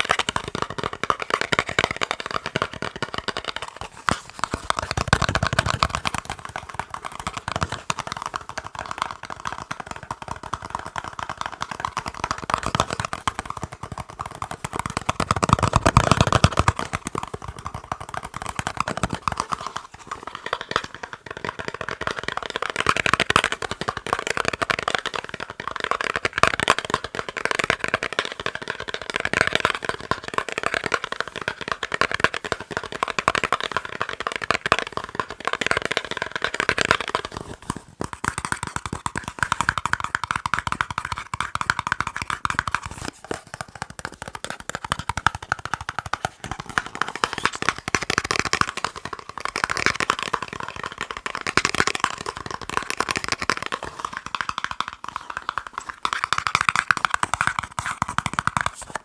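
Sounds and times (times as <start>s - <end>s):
fast tapping on a box: 0.0s - 59.0s.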